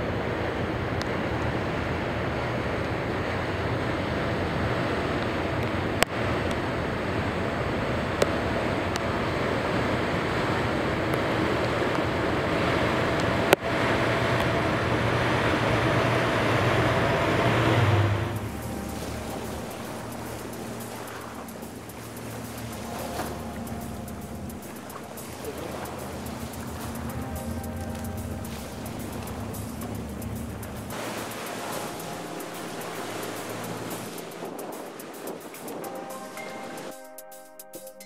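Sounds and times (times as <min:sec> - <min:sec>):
water rushing along boat bow: 0:00.0 - 0:37.1
boat engine drone: 0:00.0 - 0:37.4.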